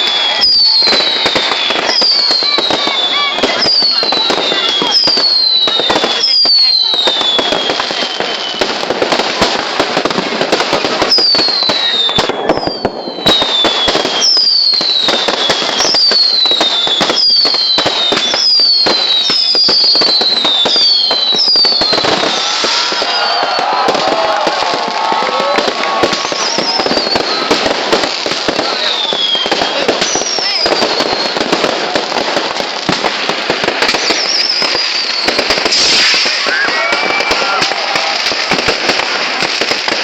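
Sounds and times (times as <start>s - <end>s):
falling firework whistles: 0.0s - 40.0s
fireworks crackling and popping: 0.0s - 40.0s.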